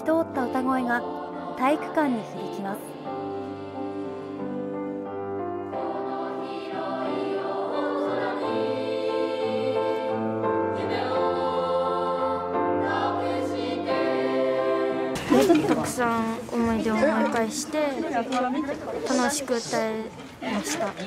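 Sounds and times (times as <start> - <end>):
grand piano: 0.0 - 17.7
children's choir singing: 0.0 - 17.8.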